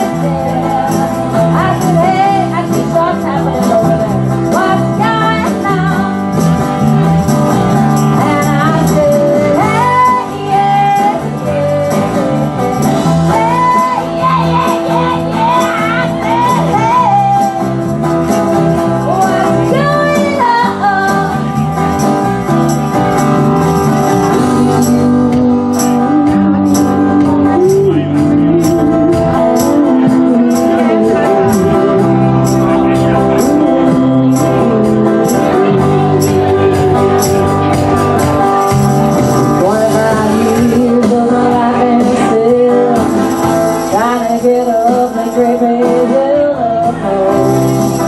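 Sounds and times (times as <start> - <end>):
woman singing: 0.0 - 6.8, 8.0 - 22.4, 24.3 - 48.0
tambourine: 0.0 - 41.1, 43.0 - 46.1, 47.3 - 48.0
live band playing: 0.0 - 48.0.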